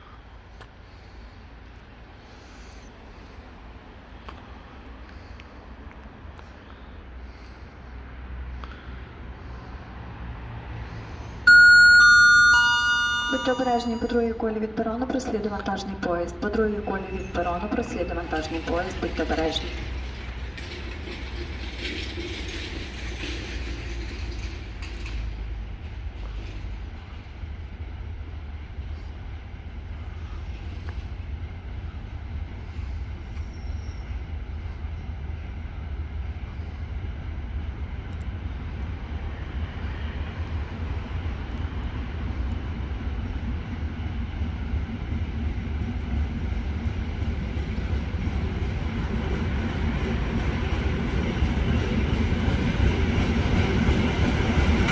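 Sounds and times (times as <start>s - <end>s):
locomotive engine rumble: 0.0s - 54.9s.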